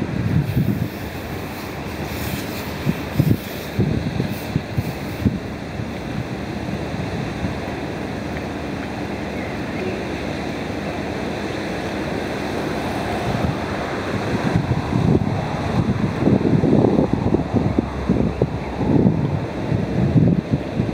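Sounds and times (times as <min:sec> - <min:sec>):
wind blowing across microphone: 0:00.0 - 0:20.9.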